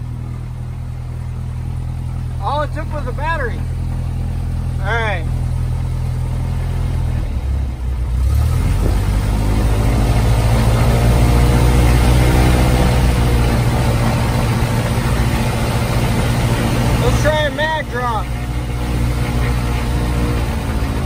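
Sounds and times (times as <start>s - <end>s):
aircraft engine and propeller: 0.0s - 21.0s.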